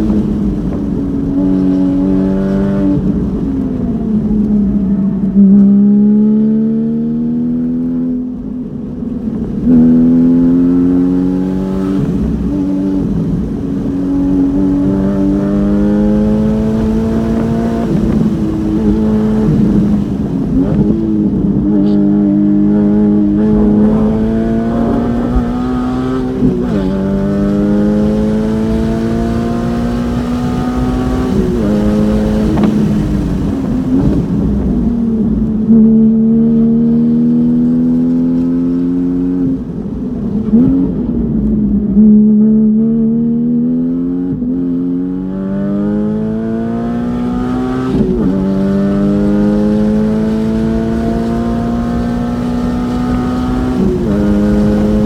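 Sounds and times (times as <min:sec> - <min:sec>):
car engine revving with open exhaust: 0:00.0 - 0:55.0.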